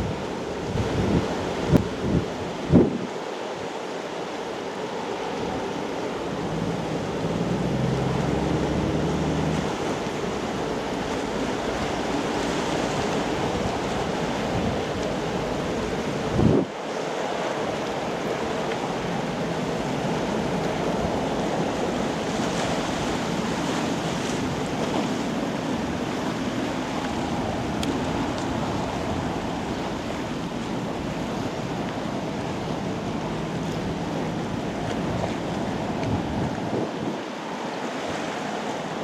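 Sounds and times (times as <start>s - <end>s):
wind buffeting microphone: 0.0s - 3.2s, 5.3s - 38.4s.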